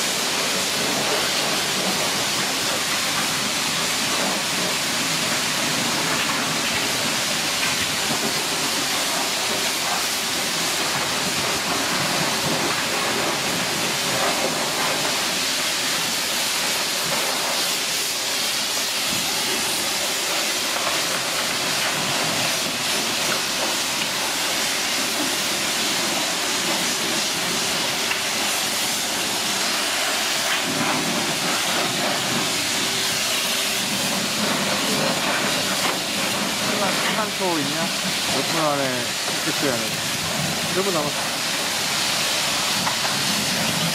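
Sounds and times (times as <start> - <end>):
water jet spraying a car: 0.0 - 43.9.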